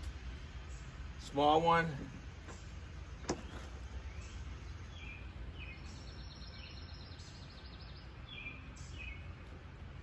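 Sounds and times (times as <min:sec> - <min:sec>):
birds chirping: 0:00.0 - 0:10.0
low steady rumble: 0:00.0 - 0:10.0.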